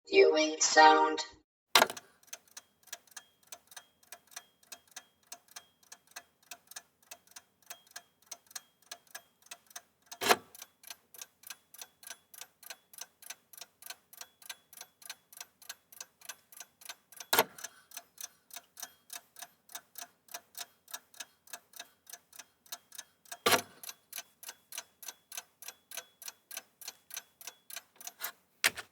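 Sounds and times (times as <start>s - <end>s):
chess clock ticking: 1.8s - 28.9s.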